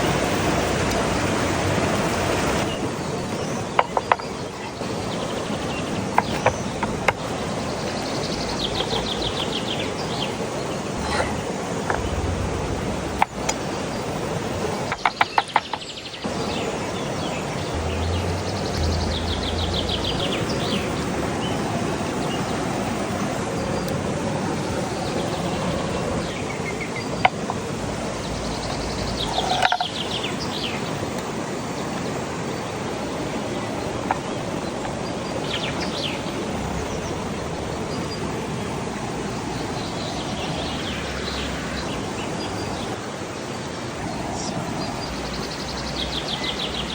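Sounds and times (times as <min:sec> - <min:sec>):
songbirds trilling: 0:00.0 - 0:46.9
steady outdoor noise: 0:00.0 - 0:46.9.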